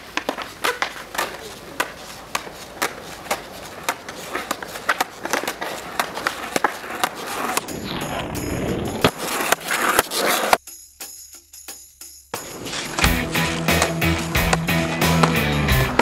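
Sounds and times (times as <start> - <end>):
skateboard wheels clacking: 0.0 - 10.6, 12.4 - 16.0
skateboard wheels rolling: 0.0 - 10.6, 12.4 - 16.0.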